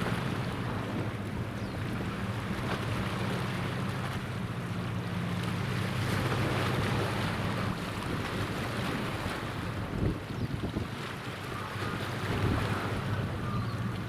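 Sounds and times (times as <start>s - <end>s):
boat engine droning: 0.0s - 14.0s
rushing water: 0.0s - 14.0s
wind: 0.0s - 14.0s.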